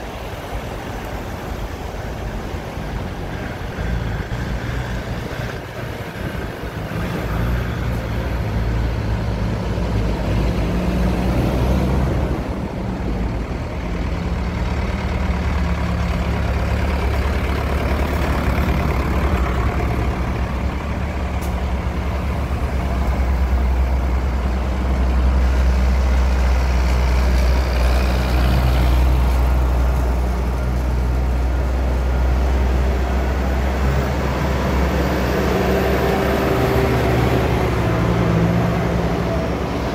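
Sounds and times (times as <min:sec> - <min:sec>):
tractor engines driving past: 0:00.0 - 0:39.9.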